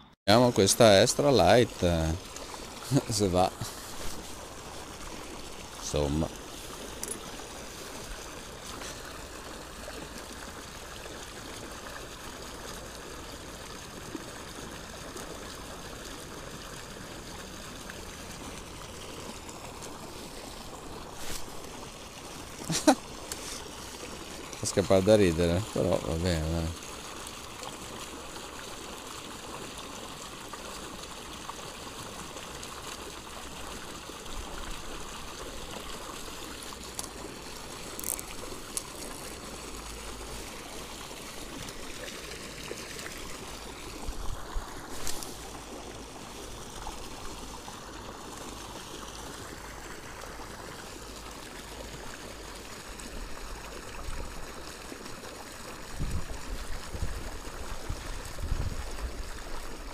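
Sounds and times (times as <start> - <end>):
water jetting onto lake: 0.3 - 59.9.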